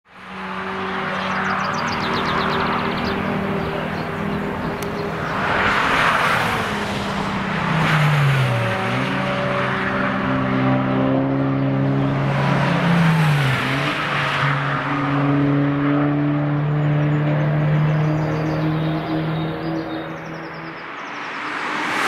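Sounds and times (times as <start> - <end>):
car engine running hard: 0.2 - 20.1.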